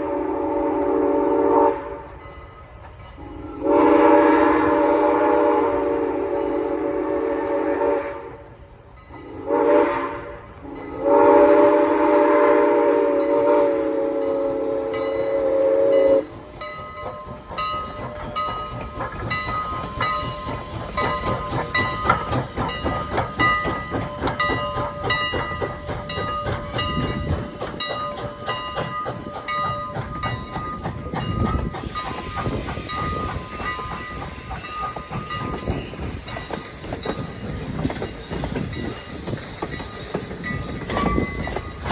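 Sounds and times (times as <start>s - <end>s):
steam locomotive chime whistle: 0.0s - 41.9s
train wheels clicking over rail joints: 2.0s - 5.8s, 8.5s - 41.9s.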